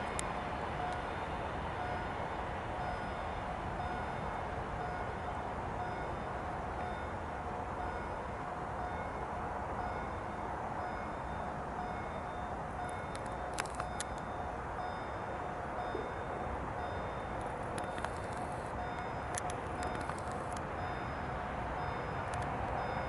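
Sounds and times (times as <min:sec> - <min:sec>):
distant rumble of trains: 0:00.0 - 0:23.0.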